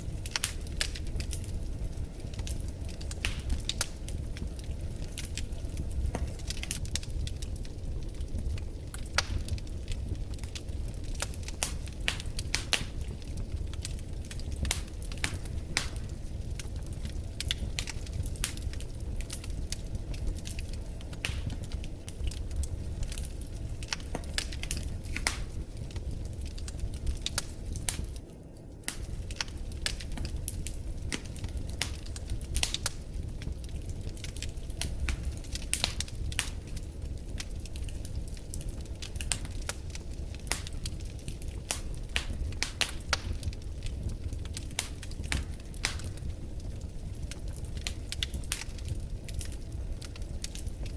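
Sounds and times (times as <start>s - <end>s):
low rumble of flames: 0.0s - 50.9s
wood fire crackling and popping: 0.0s - 50.9s.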